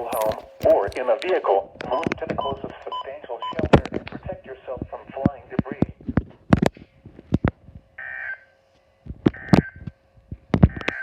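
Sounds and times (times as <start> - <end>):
radio static clicks and pops: 0.0 - 7.6, 9.1 - 11.0.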